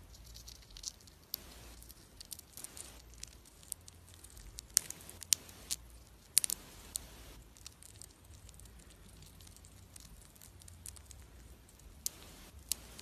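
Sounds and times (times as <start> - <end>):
hamster cracking seeds: 0.0 - 13.0.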